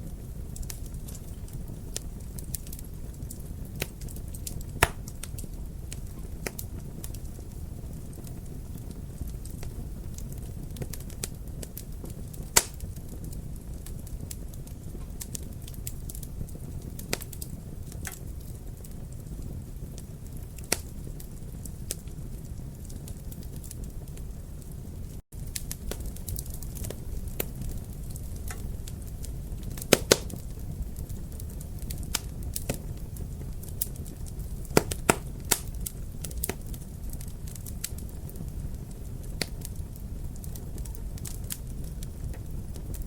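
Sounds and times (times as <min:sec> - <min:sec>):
sharp fire pops: 0:00.0 - 0:43.0
wood fire crackling: 0:00.0 - 0:43.0.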